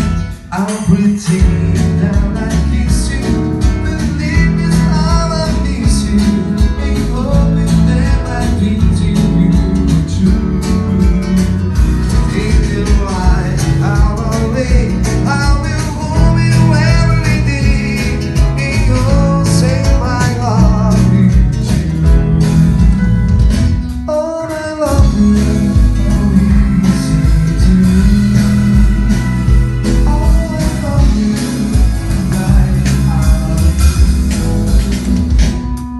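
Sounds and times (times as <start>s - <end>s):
live band playing: 0.0s - 35.9s.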